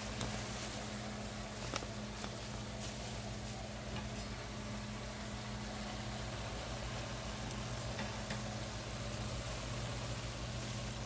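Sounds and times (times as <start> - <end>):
beef hissing in a pot: 0.0 - 11.0.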